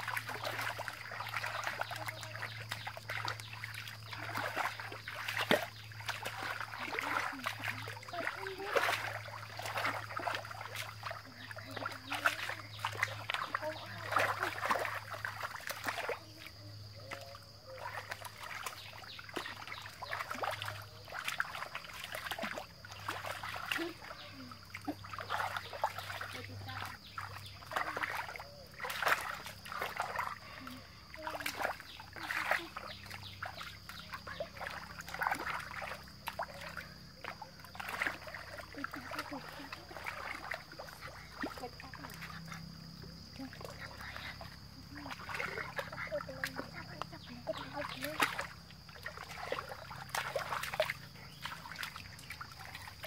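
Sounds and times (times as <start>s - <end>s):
splashing in muddy water: 0.0s - 53.0s.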